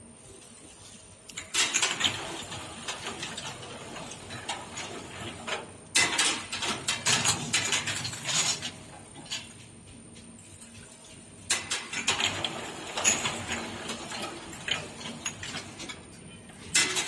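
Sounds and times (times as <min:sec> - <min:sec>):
washing machine rattling clatter: 0:01.4 - 0:10.0, 0:10.6 - 0:17.0.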